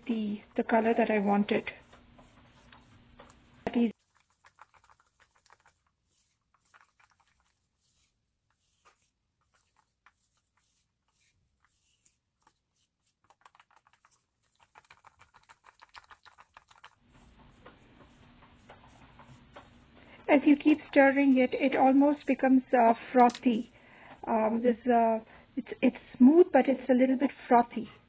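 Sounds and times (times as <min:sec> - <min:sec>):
stick stirring paint in tin can: 0:00.0 - 0:23.7.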